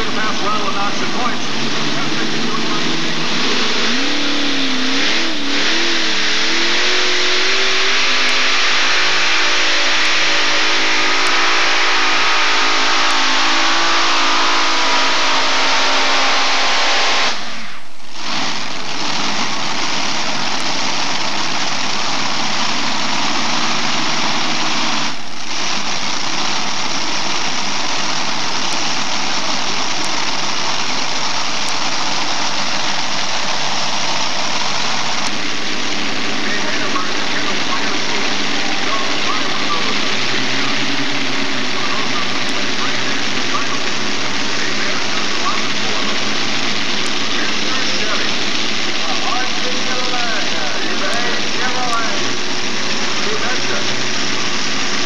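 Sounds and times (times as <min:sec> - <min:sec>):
pulling tractor engines revving: 0:00.0 - 0:55.0.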